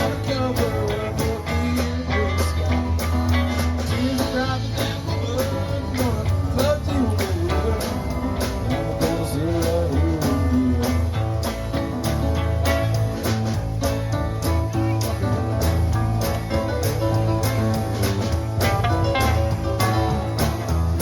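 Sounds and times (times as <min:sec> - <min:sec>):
country-rock band playing: 0:00.0 - 0:21.0
lead guitar bending notes: 0:01.4 - 0:21.0.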